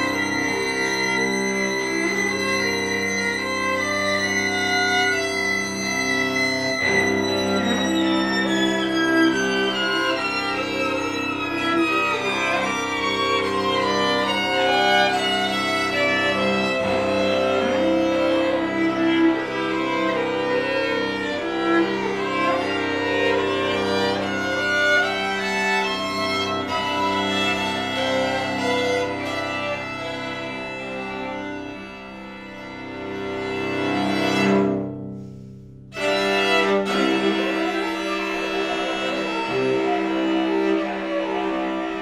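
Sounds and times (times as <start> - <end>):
high string downward glide: 0.0 - 42.0
string quartet sustained notes: 0.0 - 42.0.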